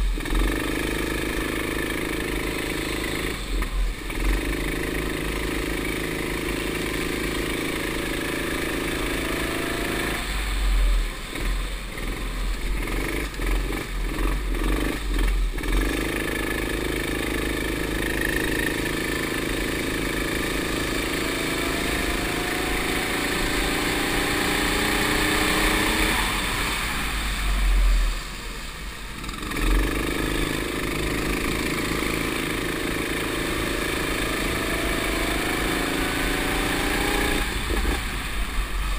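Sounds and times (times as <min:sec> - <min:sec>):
go-kart engine pulling hard: 0:00.0 - 0:38.9.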